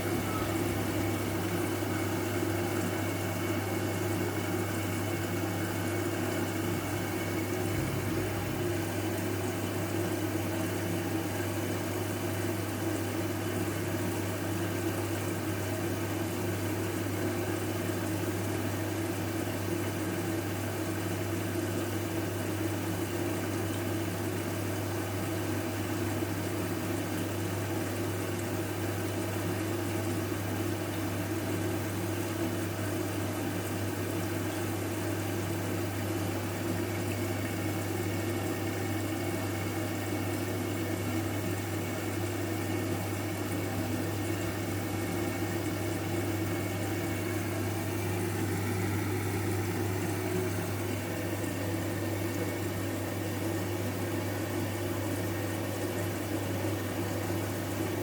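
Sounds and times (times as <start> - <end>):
washing machine humming: 0.0 - 58.0
water sloshing in wash: 0.0 - 58.0.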